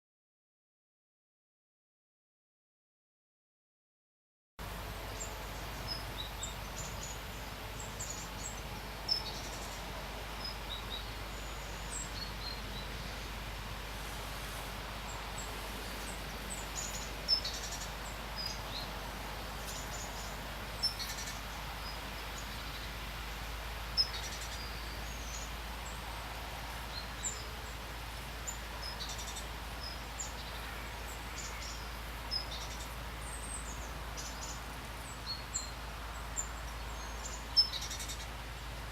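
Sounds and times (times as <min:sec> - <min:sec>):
pouring rain hiss: 0:04.6 - 0:38.9.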